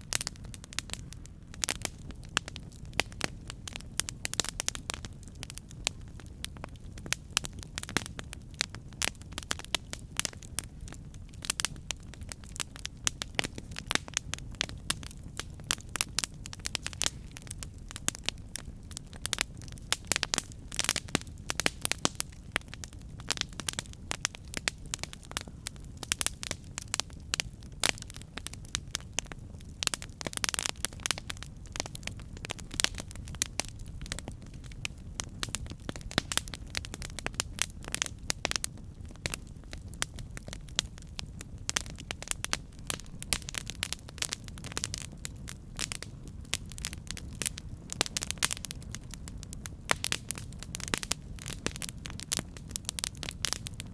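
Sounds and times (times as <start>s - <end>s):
campfire crackling and popping: 0.0s - 53.9s
low rumble of flames: 0.0s - 53.9s.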